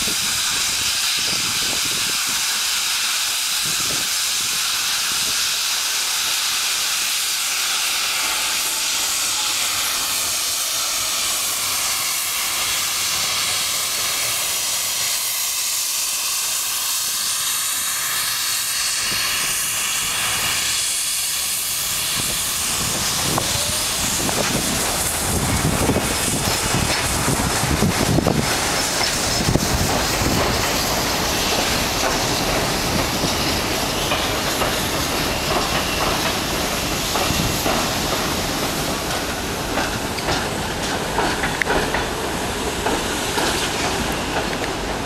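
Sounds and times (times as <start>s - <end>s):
steam locomotive hissing: 0.0s - 45.0s.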